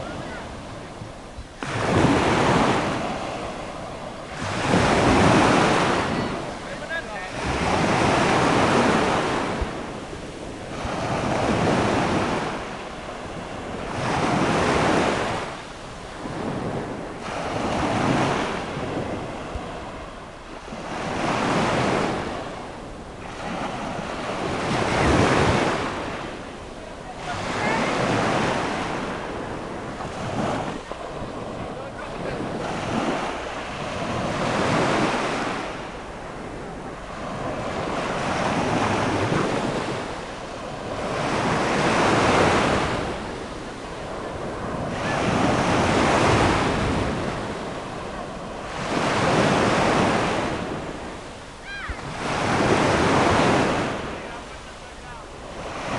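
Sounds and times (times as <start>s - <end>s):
waves washing up a beach: 0.0s - 55.9s.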